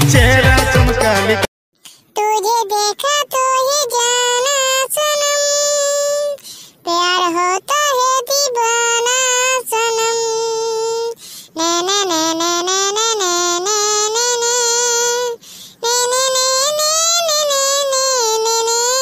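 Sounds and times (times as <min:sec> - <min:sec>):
high-pitched cartoon voice singing: 0:02.2 - 0:19.0.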